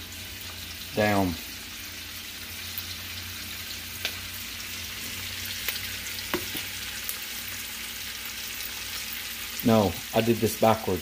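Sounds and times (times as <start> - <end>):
onions sizzling in hot oil: 0.0 - 11.0
oil crackling: 0.1 - 10.3.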